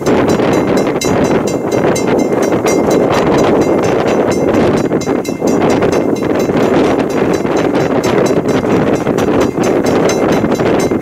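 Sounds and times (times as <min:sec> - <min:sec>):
steam locomotive chuffing: 0:00.0 - 0:11.0
wind noise on microphone: 0:00.0 - 0:11.0.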